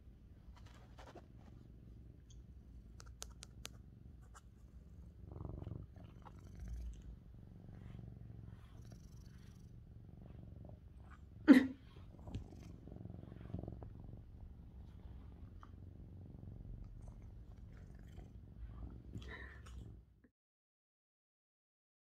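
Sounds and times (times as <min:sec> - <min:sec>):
cat purring: 0:00.1 - 0:20.2.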